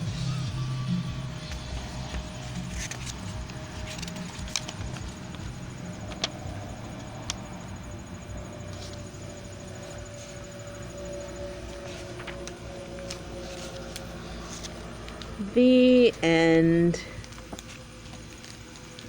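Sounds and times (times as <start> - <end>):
faint hum: 0.0 - 19.0
low background rumble: 0.0 - 19.0.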